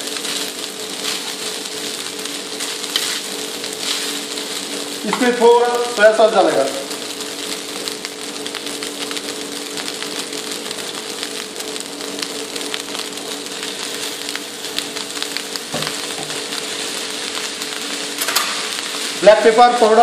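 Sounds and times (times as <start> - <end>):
steady low hum: 0.0 - 19.2
rice sizzling in a wok: 0.0 - 20.0.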